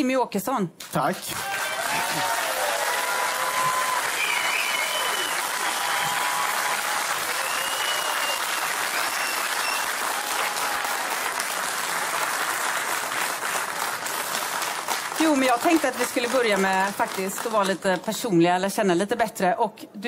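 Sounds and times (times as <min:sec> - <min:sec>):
crowd applauding: 0:01.3 - 0:18.2.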